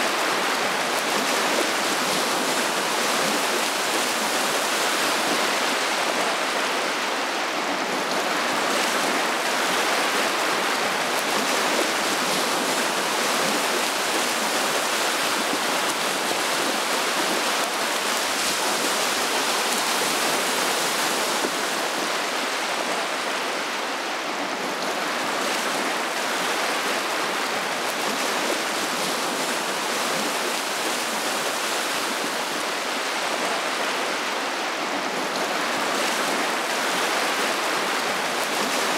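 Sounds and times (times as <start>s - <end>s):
small waves washing over sand: 0.0s - 38.9s.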